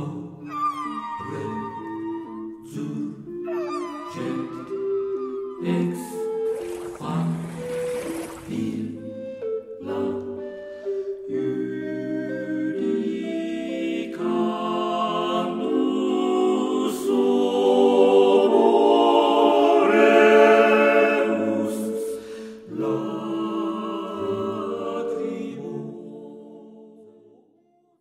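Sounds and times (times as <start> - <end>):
choral singing: 0.0 - 27.6.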